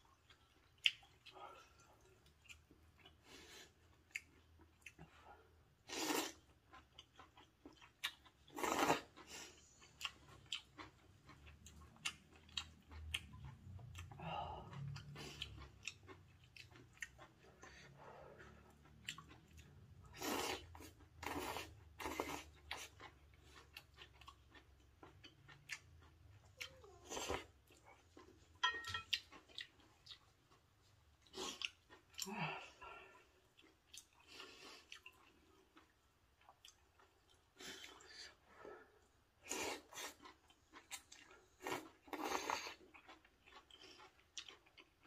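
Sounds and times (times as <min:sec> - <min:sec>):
wet chewing: 0:05.8 - 0:38.7, 0:39.4 - 0:45.0.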